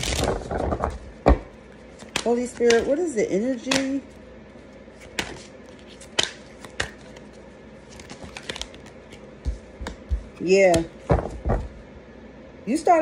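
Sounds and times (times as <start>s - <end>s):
cards clicking and tapping: 0.0s - 4.1s, 5.0s - 11.7s.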